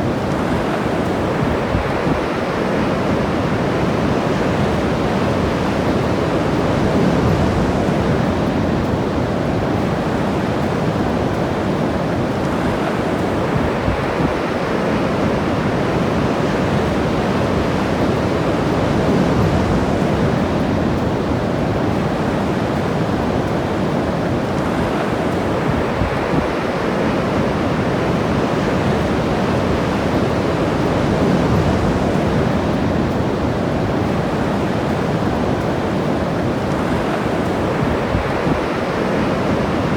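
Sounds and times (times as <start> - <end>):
ocean surf breaking on shore: 0.0 - 39.9
wind buffeting microphone: 0.0 - 39.9.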